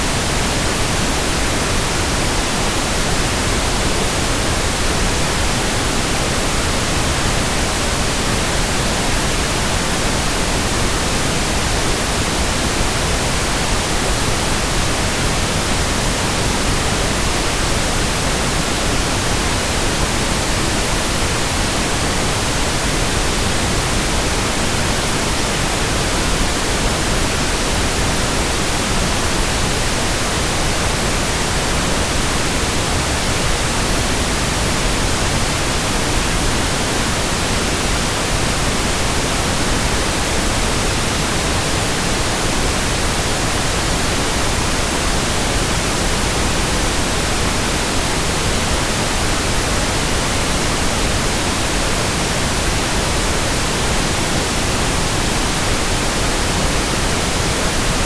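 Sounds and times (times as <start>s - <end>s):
steady pink noise hiss: 0.0s - 58.0s.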